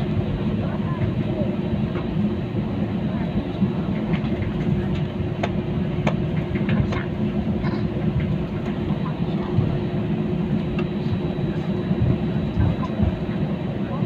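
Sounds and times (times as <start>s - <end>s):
aircraft engines rumbling: 0.0s - 14.0s
constant cabin hum: 0.0s - 14.0s.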